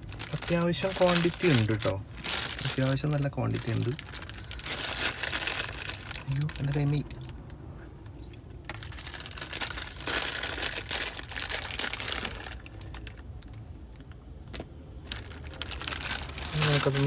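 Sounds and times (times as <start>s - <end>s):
foil wrapper crinkling: 0.0s - 7.3s, 8.7s - 13.6s, 15.0s - 17.0s.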